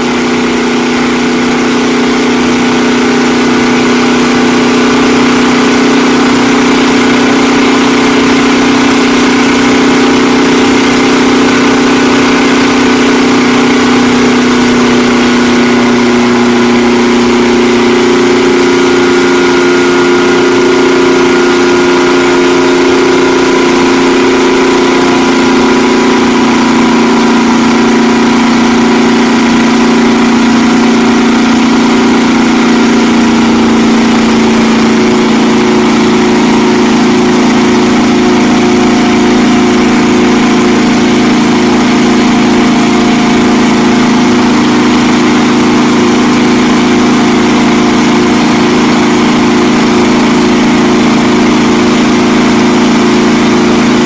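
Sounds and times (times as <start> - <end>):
car engine running steadily: 0.0 - 54.0.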